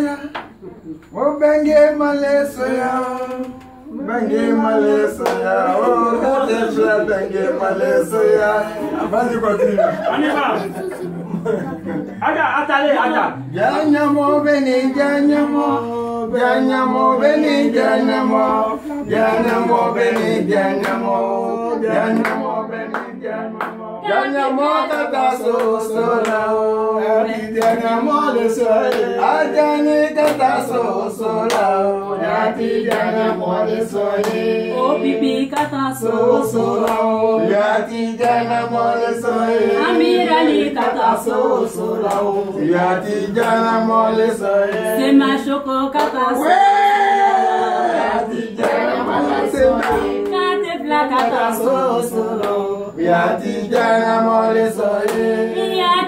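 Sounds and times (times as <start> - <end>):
voices singing unaccompanied: 0.0 - 56.0.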